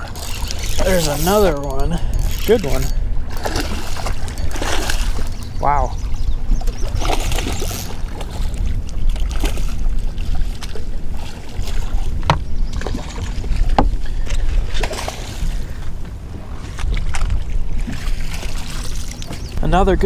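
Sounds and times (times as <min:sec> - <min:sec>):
water sloshing against boat hull: 0:00.0 - 0:20.0
wind rumbling on microphone: 0:00.0 - 0:20.0.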